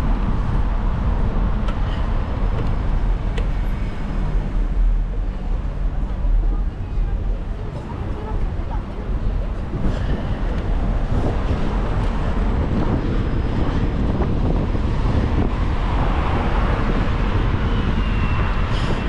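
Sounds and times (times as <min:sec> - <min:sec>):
street traffic: 0:00.0 - 0:19.0
wind rushing over microphone: 0:00.0 - 0:19.0.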